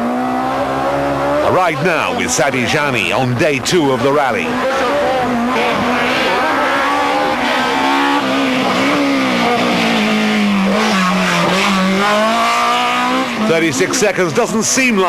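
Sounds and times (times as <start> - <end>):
rally car engine high revs: 0.0 - 14.7.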